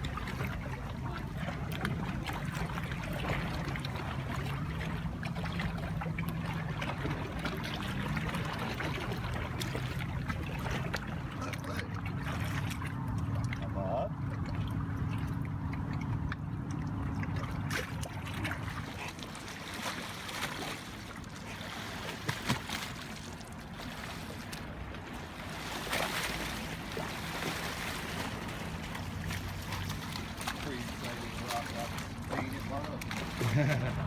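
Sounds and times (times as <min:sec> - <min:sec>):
water washing: 0:00.0 - 0:34.0
watercraft engine humming: 0:00.0 - 0:34.0.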